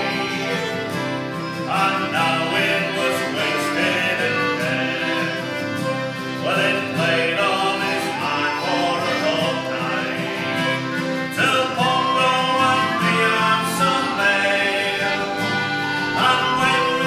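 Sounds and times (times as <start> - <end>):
folk band playing fiddle and guitar: 0.0 - 17.0.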